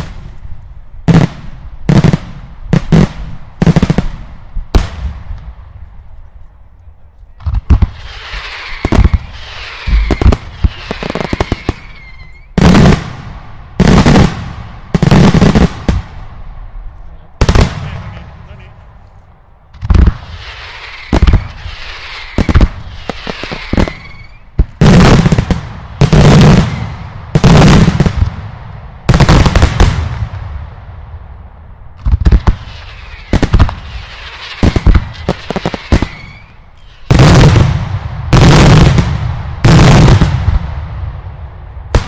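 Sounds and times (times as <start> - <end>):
fireworks exploding: 0.0 - 5.8, 7.4 - 18.8, 19.8 - 31.3, 32.0 - 42.0.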